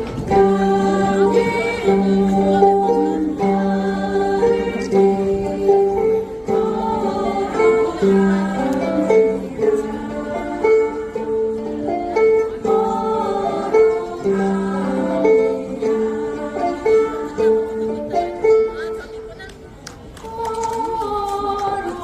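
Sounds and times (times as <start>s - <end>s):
group of voices singing: 0.0s - 18.7s, 20.2s - 22.0s
ukulele ensemble playing: 0.0s - 22.0s.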